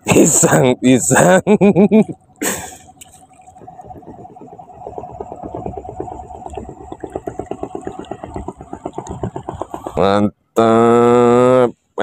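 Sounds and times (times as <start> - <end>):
small engine puttering: 0.1 - 11.5.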